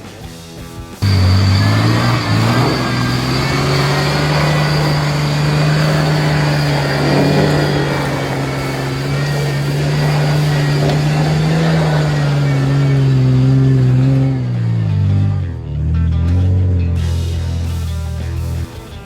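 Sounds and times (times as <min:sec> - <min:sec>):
engine running under load: 0:01.0 - 0:18.8.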